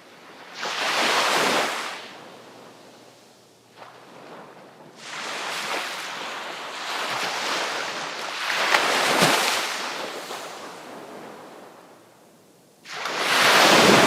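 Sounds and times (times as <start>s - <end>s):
sea waves breaking on shore: 0.0s - 12.2s, 12.8s - 14.0s.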